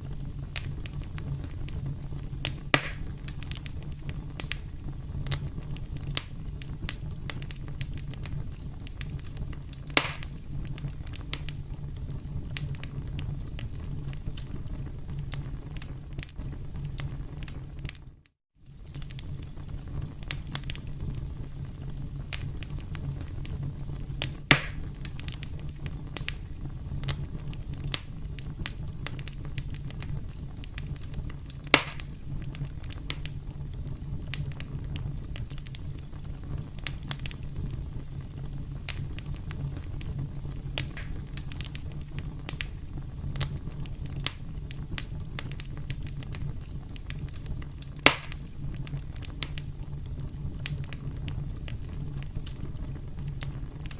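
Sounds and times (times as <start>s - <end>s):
burning wood popping: 0.0s - 53.9s
campfire crackling: 0.0s - 53.9s.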